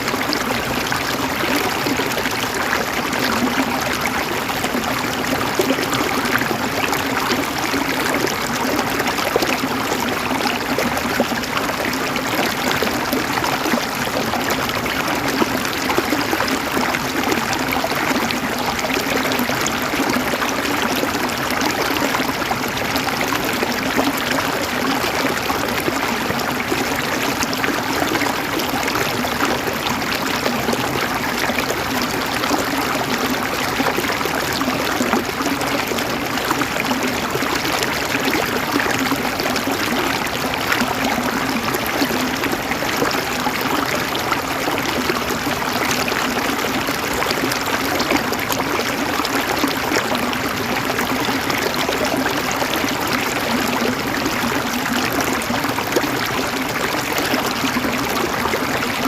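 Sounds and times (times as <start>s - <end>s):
river water gurgling over rocks: 0.0s - 59.0s.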